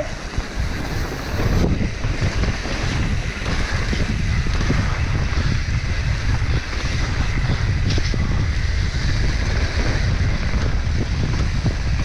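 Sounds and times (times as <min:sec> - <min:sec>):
mountain bike rolling on dirt: 0:00.0 - 0:12.0
wind buffeting microphone: 0:00.0 - 0:12.0.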